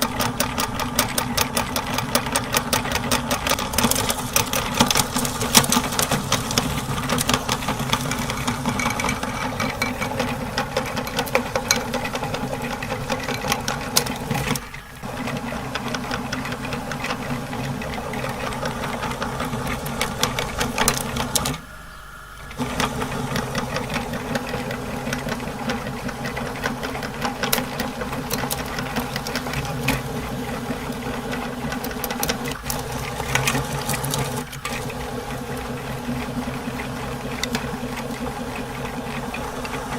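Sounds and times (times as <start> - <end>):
small clicks of grinding: 0.0 - 21.8, 22.4 - 39.9
electric meat grinder motor hum: 0.0 - 39.9.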